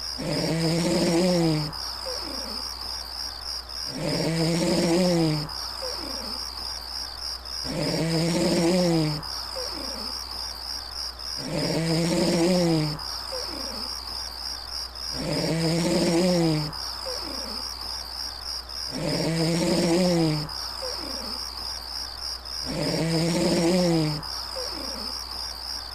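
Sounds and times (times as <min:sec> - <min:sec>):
crickets chirring: 0:00.0 - 0:25.9.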